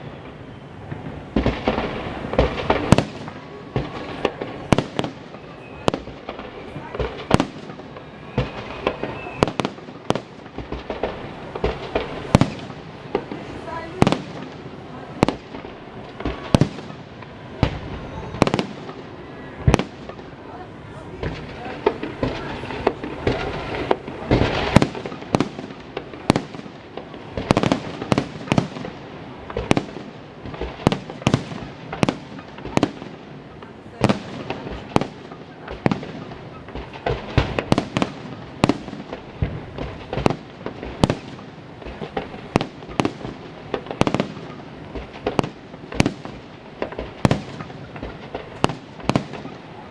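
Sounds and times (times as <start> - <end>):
continuous background noise: 0.0 - 49.9
fireworks bursting with sharp bangs: 0.0 - 49.9
fireworks crackling: 0.0 - 49.9.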